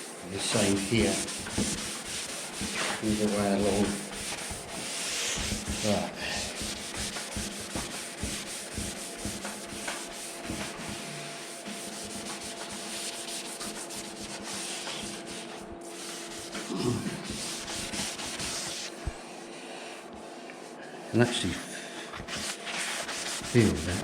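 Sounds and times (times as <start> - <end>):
sanding sponge rubbing paint: 0.0 - 19.3, 22.1 - 24.0.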